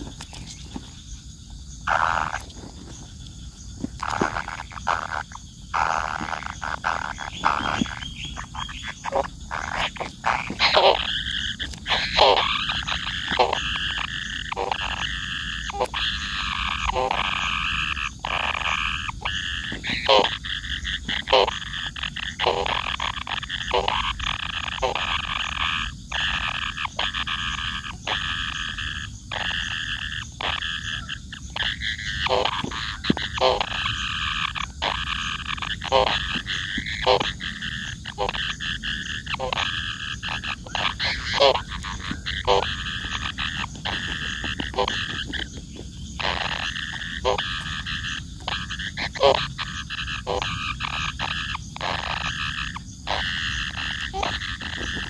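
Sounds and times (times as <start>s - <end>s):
croaking pulses: 0.0s - 55.0s
high animal buzzing: 3.8s - 55.0s.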